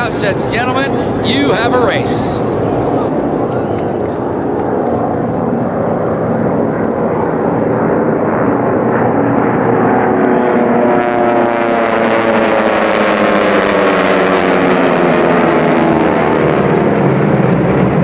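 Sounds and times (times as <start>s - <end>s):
propeller planes droning past: 0.0s - 18.0s.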